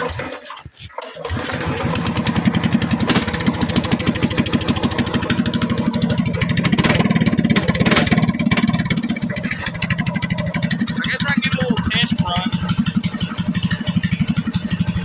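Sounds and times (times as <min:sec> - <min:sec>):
small engine running steadily: 0:01.2 - 0:15.0.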